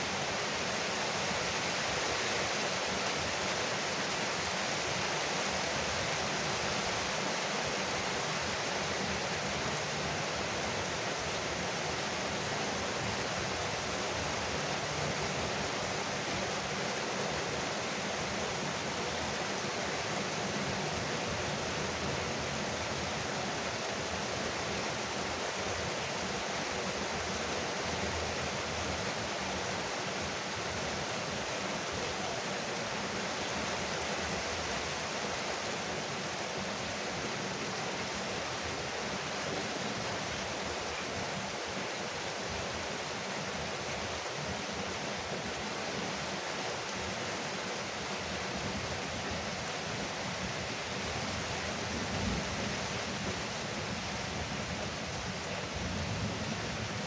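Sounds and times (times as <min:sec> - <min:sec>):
rain pattering on a roof: 0:00.1 - 0:57.0.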